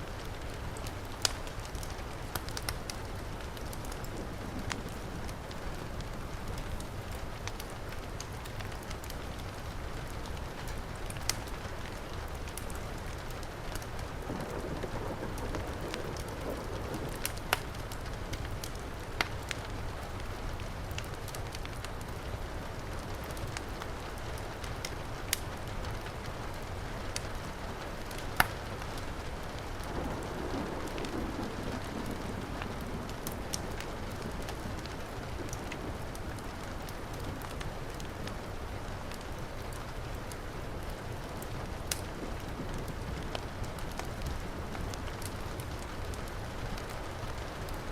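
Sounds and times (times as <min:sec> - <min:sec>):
heavy rain: 0:00.0 - 0:47.9
wood fire crackling: 0:00.0 - 0:47.9.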